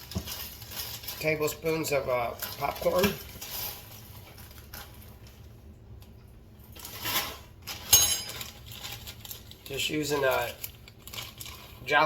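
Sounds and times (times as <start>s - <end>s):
rattle of popcorn kernels: 0.0s - 5.0s, 6.8s - 12.0s.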